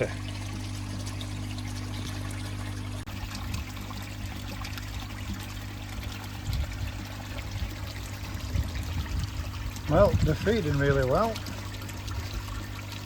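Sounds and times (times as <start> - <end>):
low steady hum: 0.0 - 13.0
water pouring into a pond: 0.0 - 13.0.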